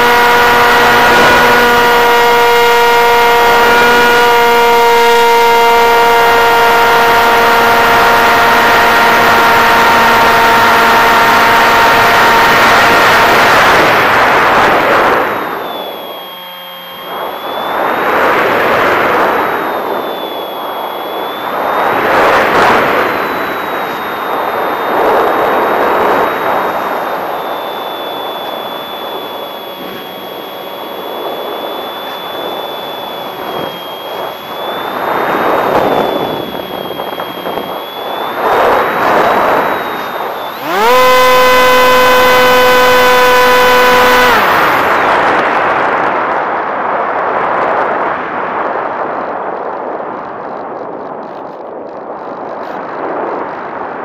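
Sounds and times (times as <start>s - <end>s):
electric motor whine: 0.0s - 46.3s
faint thin whine: 0.0s - 54.0s
wind rushing over camera: 0.0s - 54.0s.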